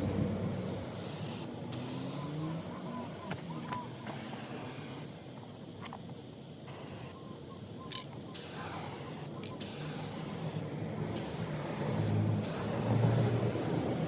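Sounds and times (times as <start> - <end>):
spray paint can hissing: 0.0 - 2.7, 4.0 - 6.0, 6.6 - 14.0.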